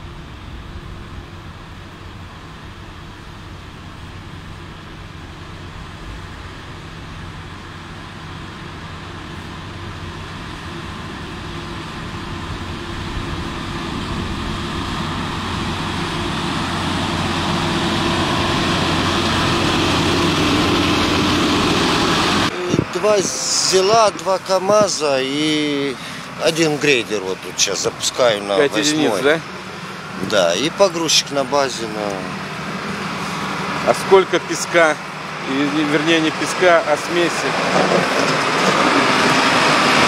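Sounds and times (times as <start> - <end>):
snow-clearing vehicle engine humming: 0.0 - 40.0.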